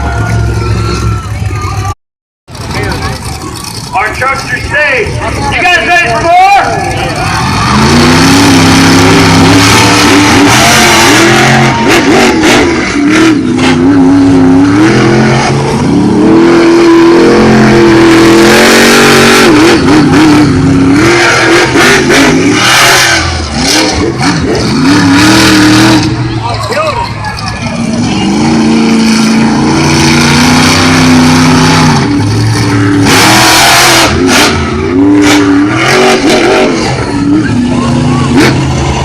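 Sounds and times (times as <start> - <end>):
monster truck engines revving: 0.0 - 39.0.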